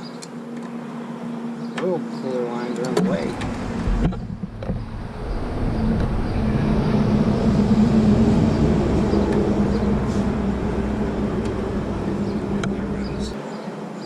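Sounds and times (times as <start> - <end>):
low mechanical drone: 0.0 - 13.4.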